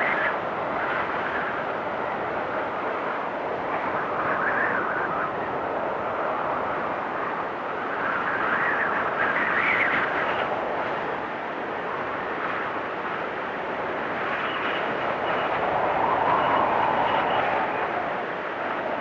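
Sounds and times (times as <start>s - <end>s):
blizzard wind rushing: 0.0s - 19.0s.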